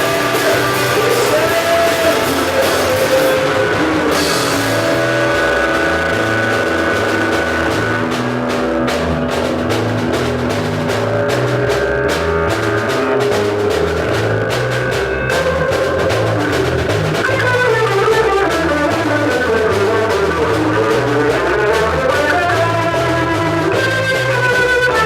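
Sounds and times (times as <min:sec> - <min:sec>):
bass line: 0:00.0 - 0:25.0
drum kit with cymbal hits: 0:00.0 - 0:25.0
electric guitar: 0:00.0 - 0:25.0.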